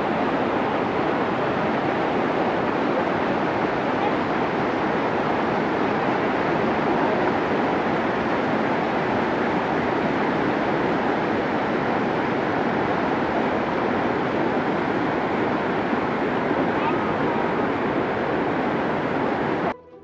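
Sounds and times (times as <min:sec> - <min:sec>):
river rapids rushing: 0:00.0 - 0:19.7.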